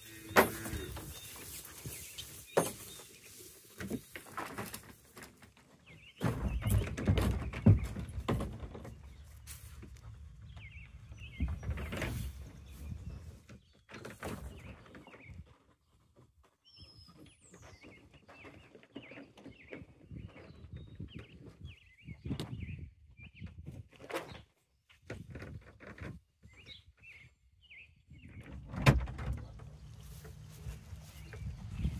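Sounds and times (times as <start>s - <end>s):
small birds chirping: 0.0s - 4.4s, 5.7s - 25.5s, 26.4s - 31.9s.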